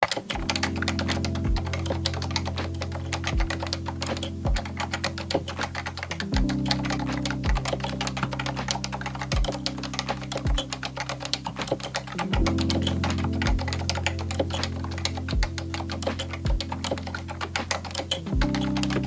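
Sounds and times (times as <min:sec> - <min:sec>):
fast keyboard typing: 0:00.0 - 0:19.0
background music with bass and beat: 0:00.4 - 0:19.0.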